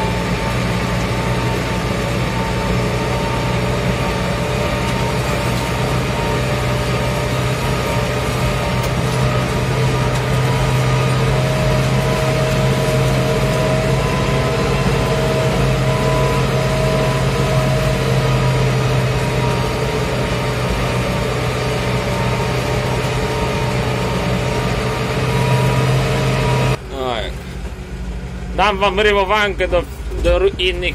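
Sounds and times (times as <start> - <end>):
tractor diesel engine under load: 0.0 - 30.9.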